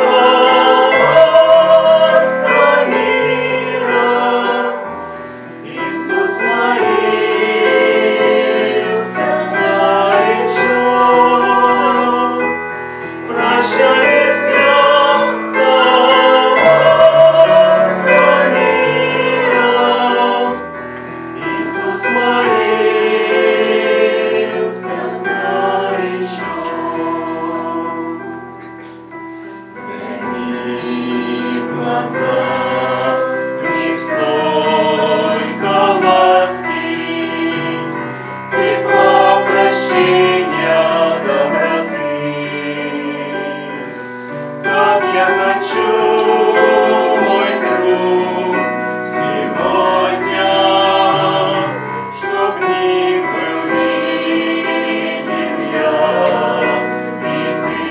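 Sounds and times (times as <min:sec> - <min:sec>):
choir singing a hymn: 0:00.0 - 0:57.9.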